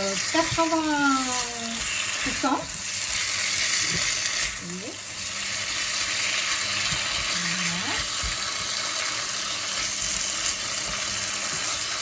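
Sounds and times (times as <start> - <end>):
food sizzling in wok: 0.0 - 12.0.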